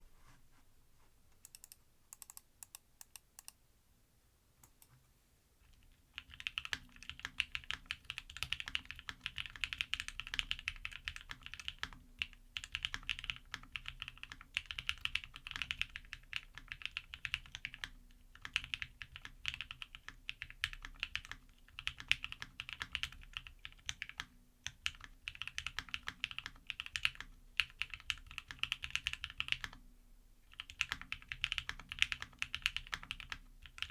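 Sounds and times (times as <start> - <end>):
mechanical keyboard typing: 1.4 - 3.5, 5.7 - 29.8, 30.5 - 33.9.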